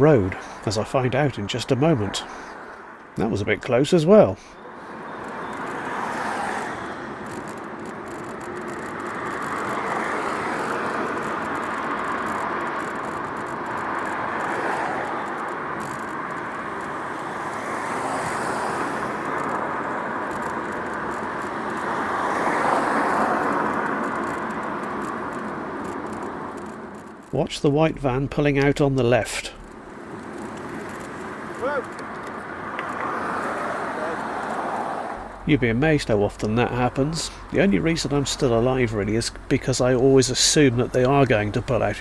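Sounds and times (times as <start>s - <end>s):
cars passing: 0.0s - 42.0s.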